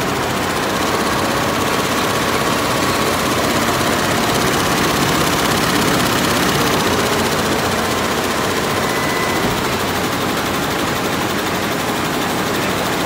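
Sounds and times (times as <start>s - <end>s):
embroidery machine rattling: 0.0s - 13.0s.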